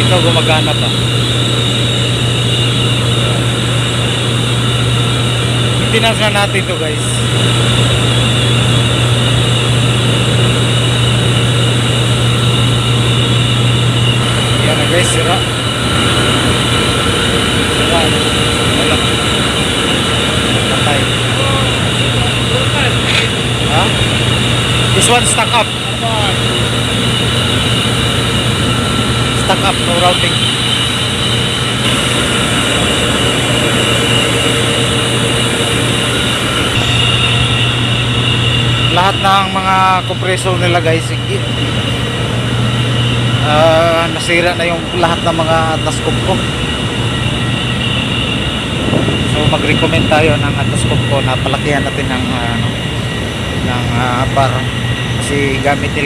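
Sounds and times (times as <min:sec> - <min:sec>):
faint high whines: 0:00.0 - 0:56.0
industrial machinery drone: 0:00.0 - 0:56.0.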